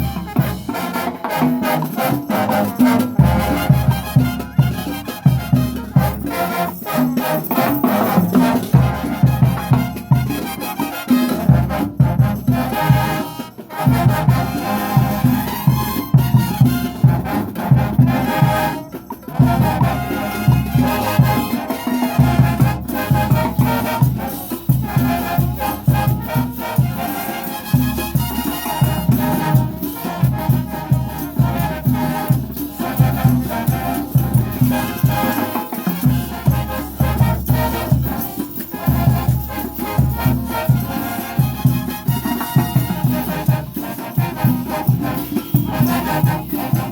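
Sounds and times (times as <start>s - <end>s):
brass band playing: 0.0s - 46.9s.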